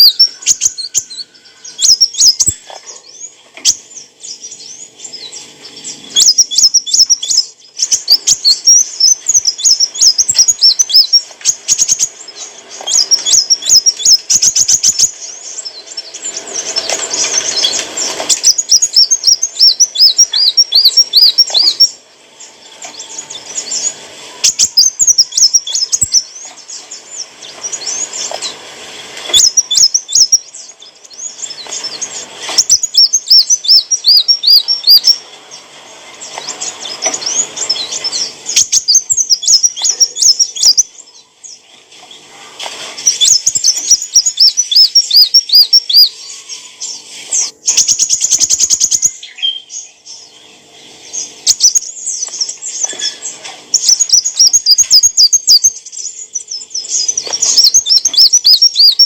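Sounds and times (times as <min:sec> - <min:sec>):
bird high twittering song: 0:00.0 - 0:59.0.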